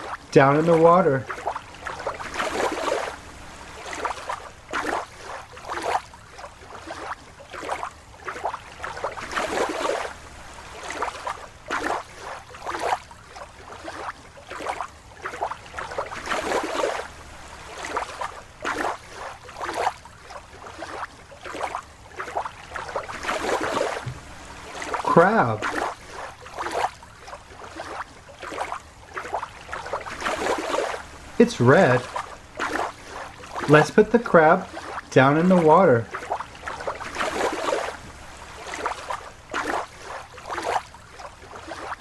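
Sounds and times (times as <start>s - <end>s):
water splashing: 0.0s - 42.0s.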